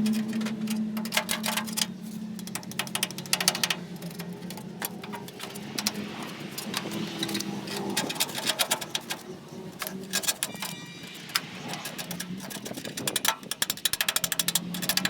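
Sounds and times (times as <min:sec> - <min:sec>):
scraping on rusty metal casing: 0:00.0 - 0:15.0.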